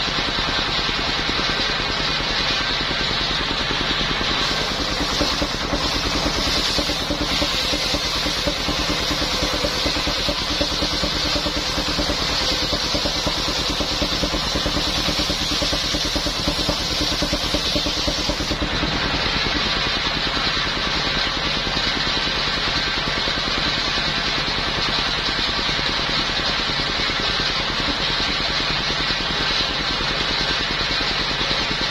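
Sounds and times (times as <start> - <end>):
circular sawmill engine running: 0.0 - 31.9.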